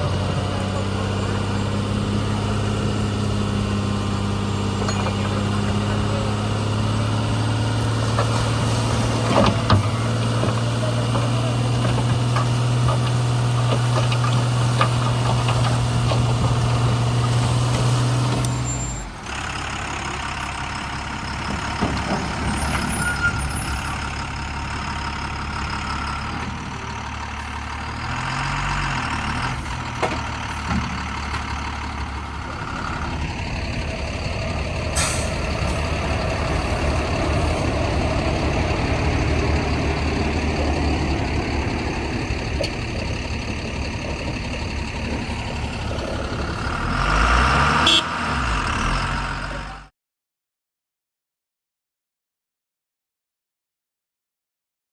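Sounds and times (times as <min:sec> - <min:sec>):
diesel engines running: 0:00.0 - 0:49.9
strong steady engine drone: 0:00.0 - 0:49.9.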